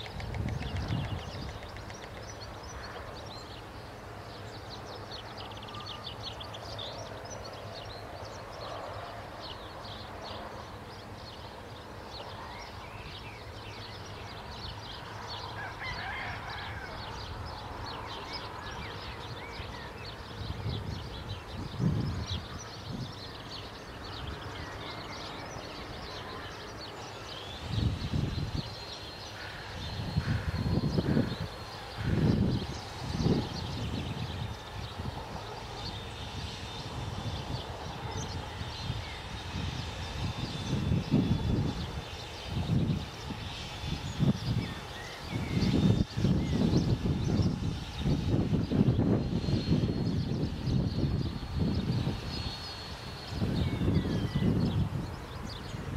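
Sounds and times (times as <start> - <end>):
birds chirping: 0.0 - 55.9
steady background hiss: 0.0 - 55.9.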